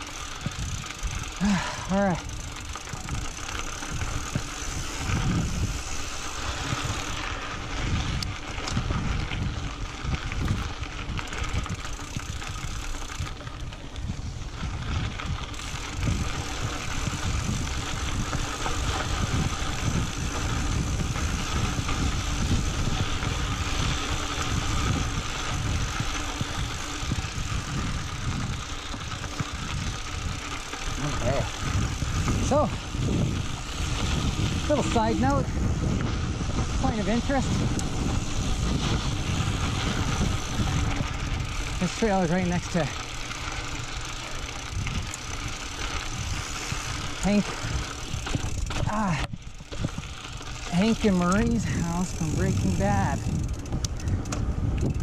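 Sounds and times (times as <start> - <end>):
bike tyres on dirt trail: 0.0 - 55.0
wind buffeting microphone: 0.0 - 55.0.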